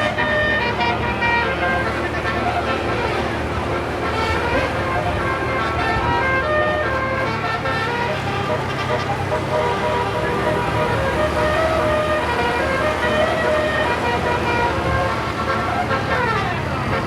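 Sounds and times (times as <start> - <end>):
bus engine hum: 0.0 - 17.0
musical air horn playing a tune: 0.0 - 17.0.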